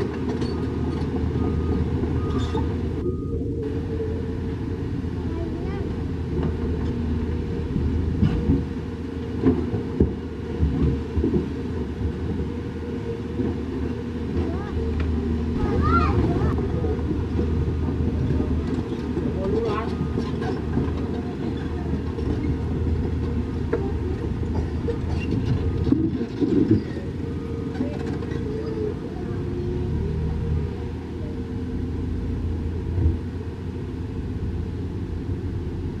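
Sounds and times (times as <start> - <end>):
heavy diesel machinery rumbling: 0.0 - 36.0.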